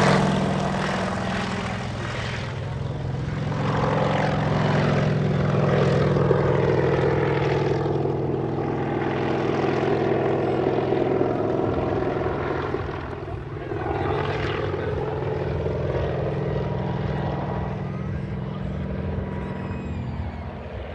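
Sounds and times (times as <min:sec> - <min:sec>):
helicopter flying overhead: 0:00.0 - 0:20.9.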